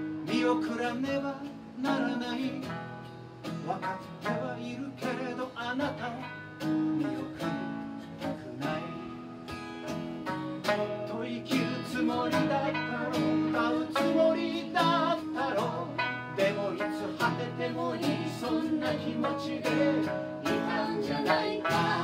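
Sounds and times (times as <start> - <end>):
strummed acoustic guitar: 0.0 - 22.0
three-string lute: 0.0 - 22.0.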